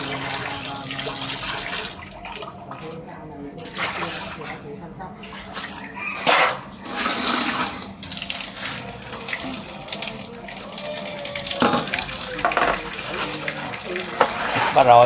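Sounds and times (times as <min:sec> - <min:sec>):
water splashing in steel basin: 0:00.0 - 0:15.0.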